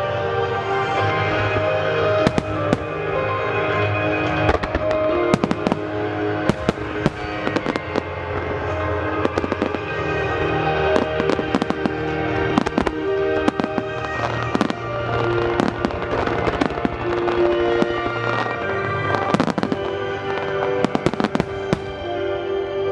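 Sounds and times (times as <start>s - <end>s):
music playing: 0.0s - 22.9s.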